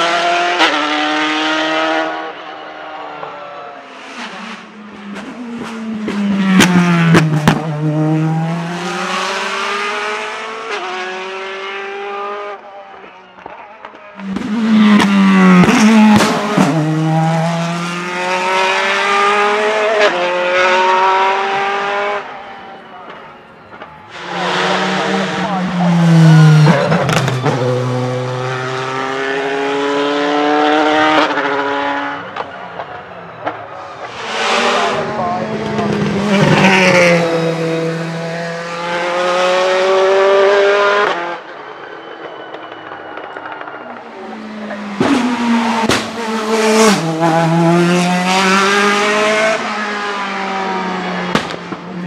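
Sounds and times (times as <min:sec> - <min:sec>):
race car accelerating past: 0:00.0 - 0:22.8, 0:24.1 - 0:41.6, 0:44.0 - 0:52.0.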